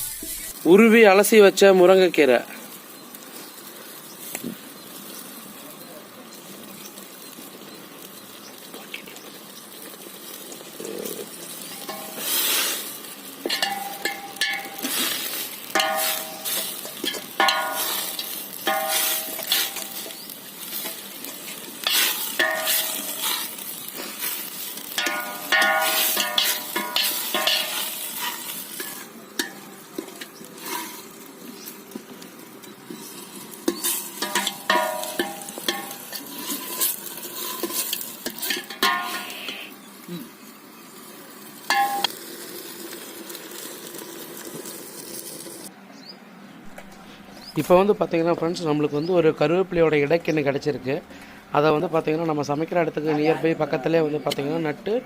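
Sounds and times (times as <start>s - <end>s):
leaves sizzling in a pot: 0.0s - 55.0s.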